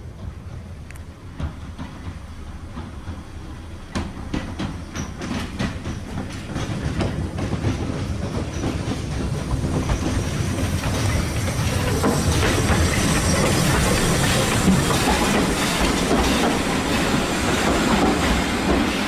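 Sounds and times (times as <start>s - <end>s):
steam train rolling slowly: 0.0s - 19.0s
wheels clicking over rail joints: 0.2s - 19.0s.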